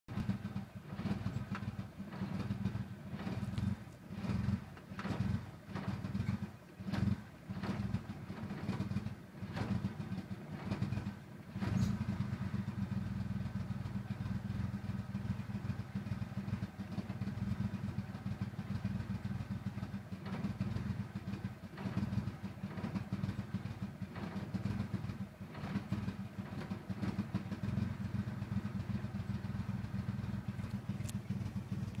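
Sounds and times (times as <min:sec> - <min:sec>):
car engine idling roughly: 0:00.0 - 0:32.0.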